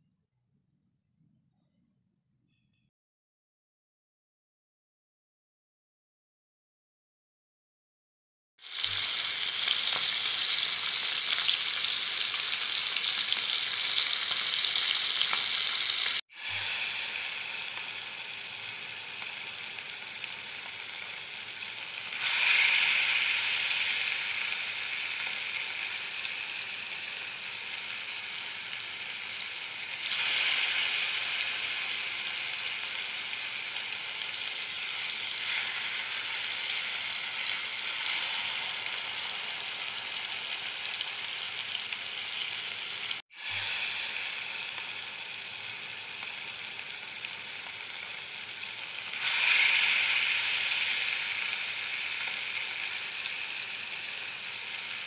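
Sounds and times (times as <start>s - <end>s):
fish frying in sizzling oil: 8.6s - 55.0s.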